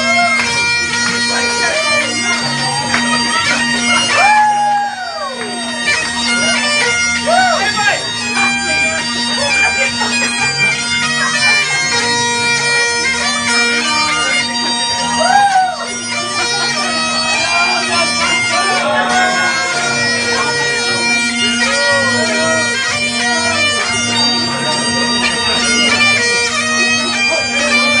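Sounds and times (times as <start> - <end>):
bagpipes playing a tune: 0.0 - 28.0
people talking: 0.0 - 28.0.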